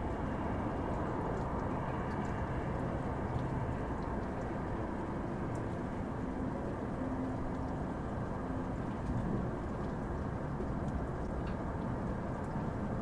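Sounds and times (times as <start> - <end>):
low white noise hiss: 0.0 - 13.0.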